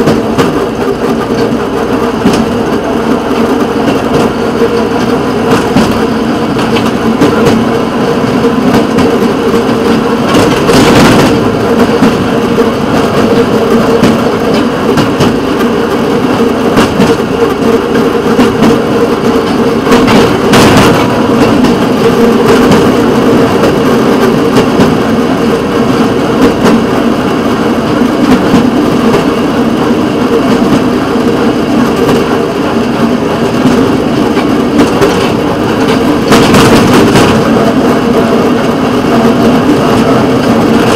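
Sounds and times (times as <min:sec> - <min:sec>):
wheels clacking over track joints: 0:00.0 - 0:40.9.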